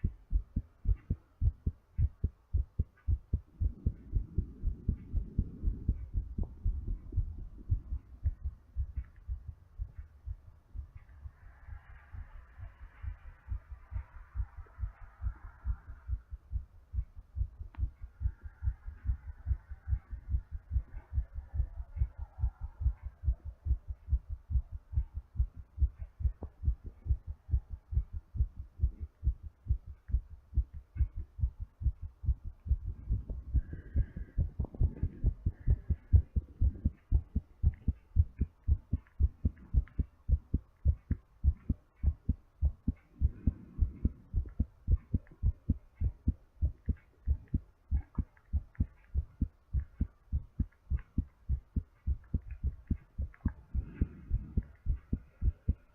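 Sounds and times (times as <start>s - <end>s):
heartbeat thumps: 0.0s - 55.9s.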